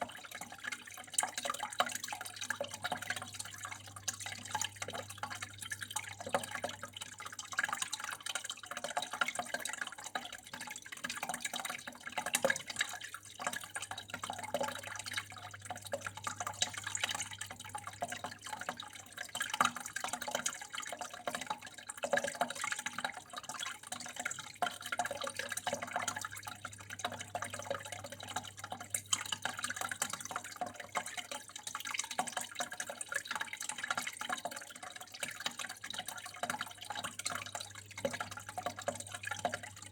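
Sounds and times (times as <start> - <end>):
water flowing and dripping: 0.0 - 39.9.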